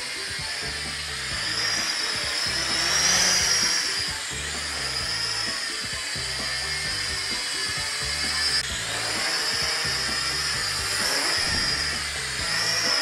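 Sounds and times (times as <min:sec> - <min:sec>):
background music: 0:00.0 - 0:13.0
quadcopter motors whining: 0:00.0 - 0:13.0.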